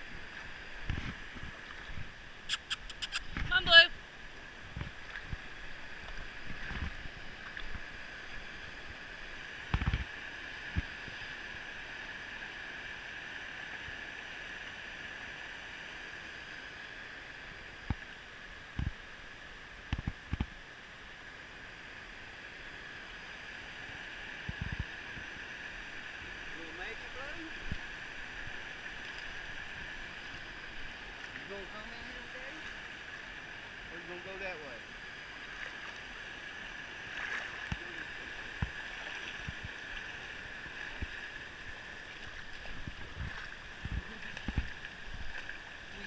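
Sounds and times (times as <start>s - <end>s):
river water rushing over rocks: 3.2s - 46.0s.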